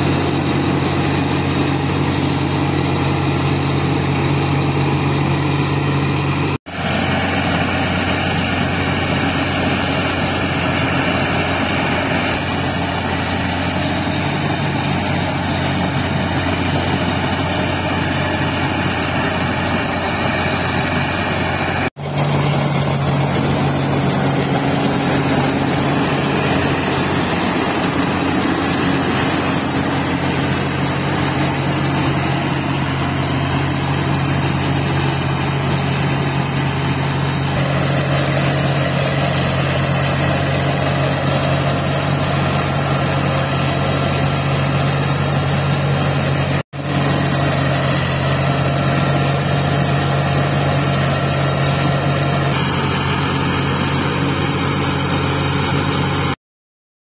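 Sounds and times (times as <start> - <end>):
steady high whine: 0.0 - 56.1
combine harvester running: 0.0 - 56.4.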